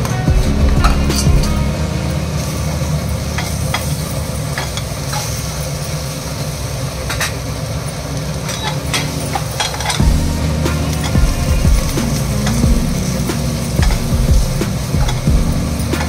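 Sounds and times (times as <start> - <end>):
vegetables sizzling in pan: 1.6 - 16.0.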